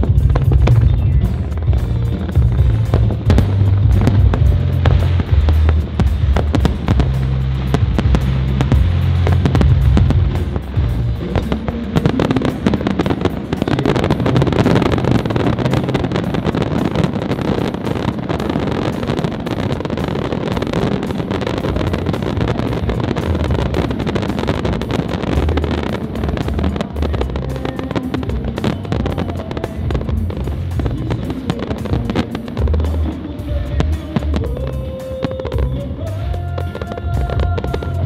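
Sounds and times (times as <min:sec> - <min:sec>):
fireworks bursting and crackling: 0:00.0 - 0:38.0
heavy low rumble: 0:00.0 - 0:38.0.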